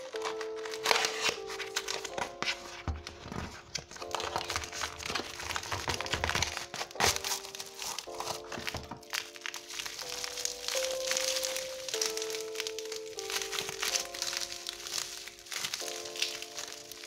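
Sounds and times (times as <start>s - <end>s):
background music melody: 0.0s - 17.0s
bubble wrap crinkling: 0.0s - 17.0s.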